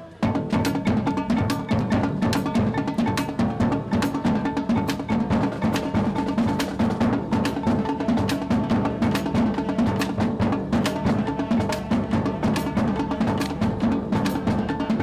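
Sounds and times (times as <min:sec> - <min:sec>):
marching band playing: 0:00.0 - 0:15.0
snare and bass drums beating: 0:00.2 - 0:15.0.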